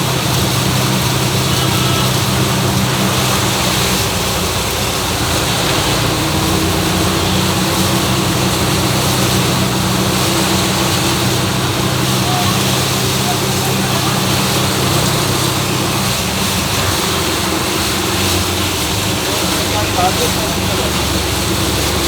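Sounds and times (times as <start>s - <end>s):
heavy rain hiss: 0.0s - 22.0s
vehicle engine idling: 0.0s - 22.0s.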